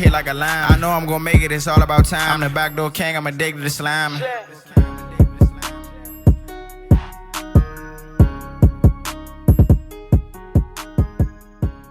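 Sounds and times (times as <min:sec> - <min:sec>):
instrumental hip hop beat: 0:00.0 - 0:11.9.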